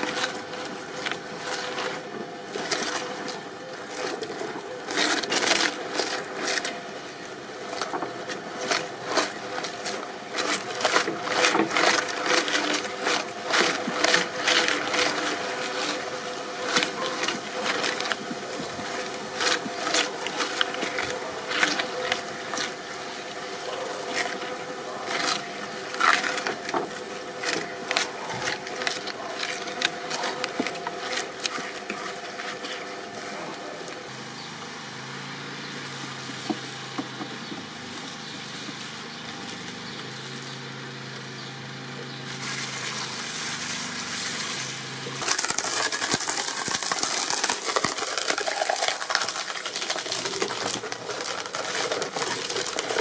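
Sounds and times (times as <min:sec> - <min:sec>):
shredder cutters cracking and crunching: 0:00.0 - 0:53.0
shredding machine humming: 0:00.0 - 0:53.0.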